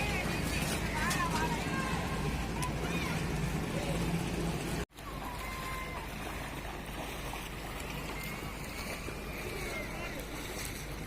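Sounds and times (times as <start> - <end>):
floodwater rushing: 0.0 - 11.0
low motor hum: 0.0 - 11.0.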